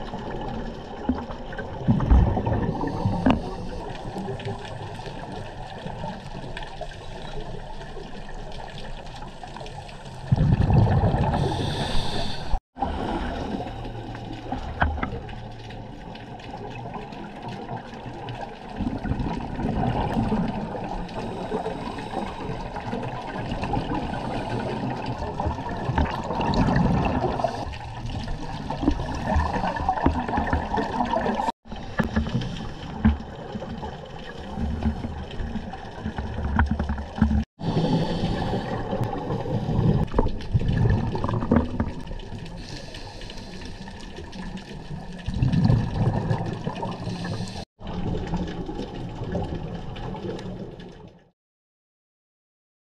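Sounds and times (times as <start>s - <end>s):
underwater regulator bubbles gurgling: 0.0s - 51.3s.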